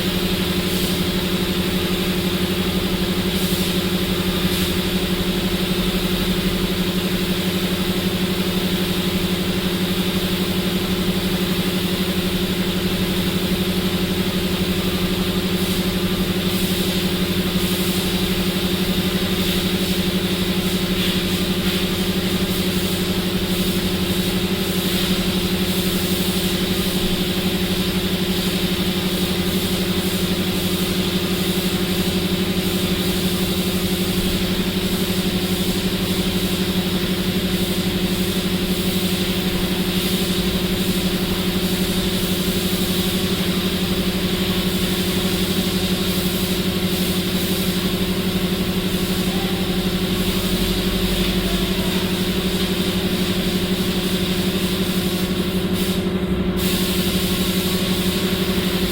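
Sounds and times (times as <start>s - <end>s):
engine running with pulsing hum: 0.0s - 58.9s.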